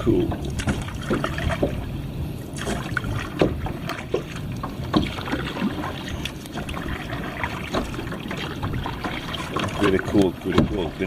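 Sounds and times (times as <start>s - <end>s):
steady low rumble: 0.0s - 11.0s
water sloshing and splashing: 0.0s - 11.0s.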